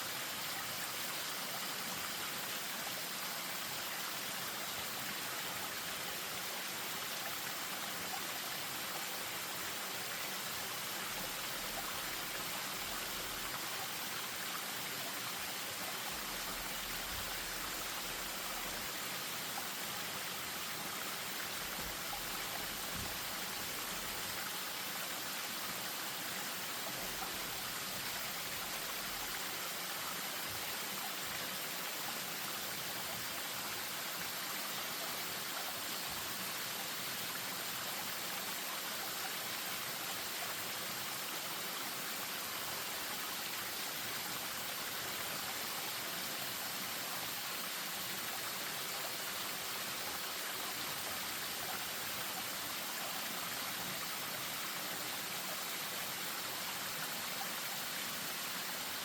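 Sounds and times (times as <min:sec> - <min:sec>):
stream over small waterfall: 0:00.0 - 0:59.0.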